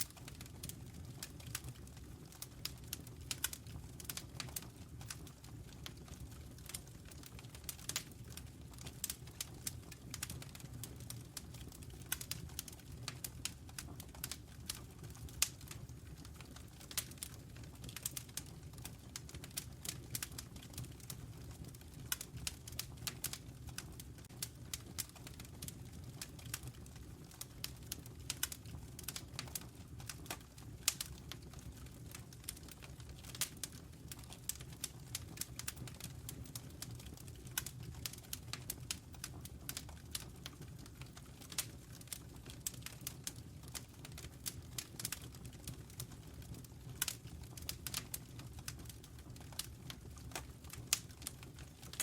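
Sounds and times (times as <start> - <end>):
fire crackling and popping: 0.0 - 52.0
low rumble of fire: 0.0 - 52.0.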